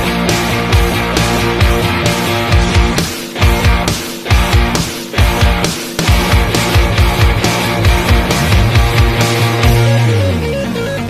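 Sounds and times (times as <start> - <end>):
fast drum beat: 0.0 - 10.1
loud rock music: 0.0 - 11.0.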